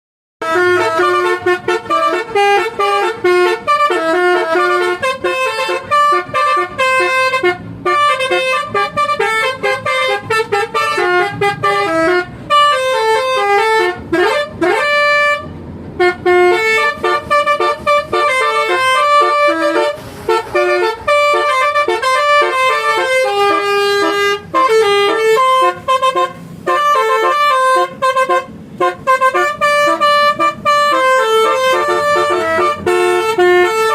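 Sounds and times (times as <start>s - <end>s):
multi-tone bus horn: 0.4s - 33.9s.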